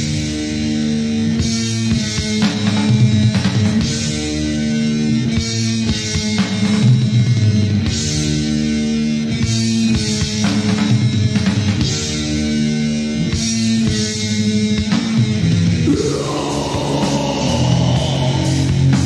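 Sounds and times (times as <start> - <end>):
distorted electric guitars and bass: 0.0 - 19.0
drum kit: 1.2 - 8.3, 9.3 - 12.5, 13.2 - 19.0.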